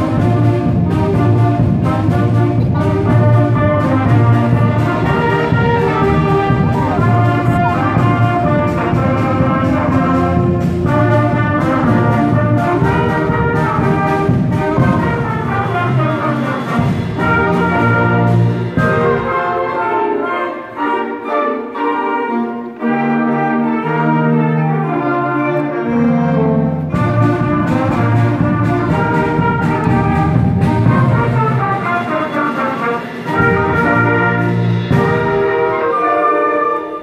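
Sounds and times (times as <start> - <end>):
drum beats: 0.0 - 20.1, 26.8 - 37.0
concert band playing: 0.0 - 37.0.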